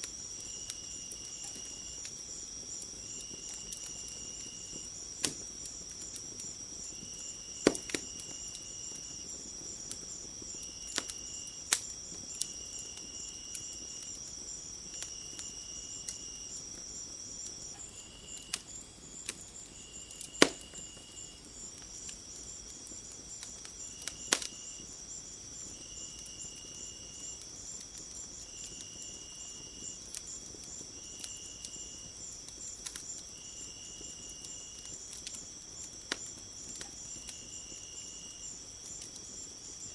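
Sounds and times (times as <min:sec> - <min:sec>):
high insect trill: 0:00.0 - 0:39.9
low insect chirps: 0:00.0 - 0:39.9
wood fire crackling: 0:00.0 - 0:39.9.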